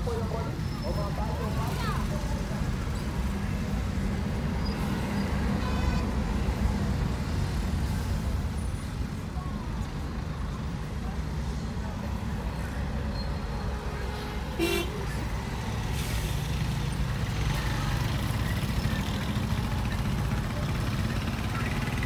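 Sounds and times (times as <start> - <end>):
traffic and engine rumble: 0.0 - 22.0.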